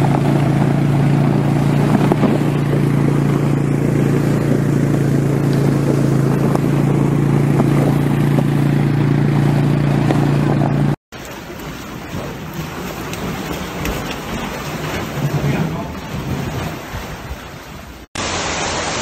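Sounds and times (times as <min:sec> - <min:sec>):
quad engine running: 0:00.0 - 0:16.6
sled clatter: 0:00.0 - 0:17.5.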